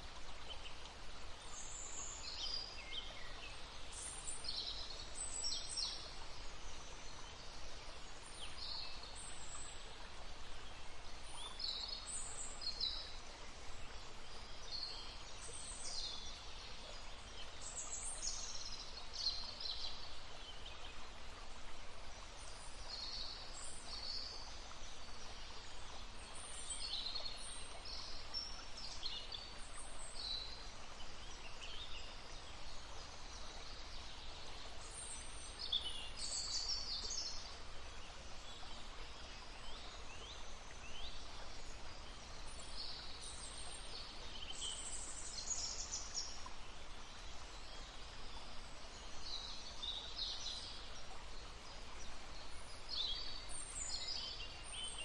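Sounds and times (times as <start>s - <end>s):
babbling stream: 0.0s - 55.0s
songbirds chirping: 0.0s - 55.0s.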